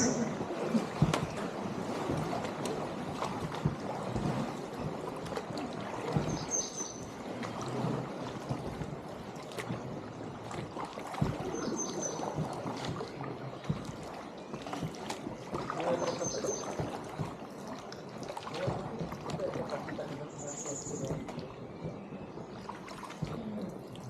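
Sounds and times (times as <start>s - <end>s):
paddle splashes: 0.0s - 24.0s
water splashing and trickling: 0.0s - 24.0s.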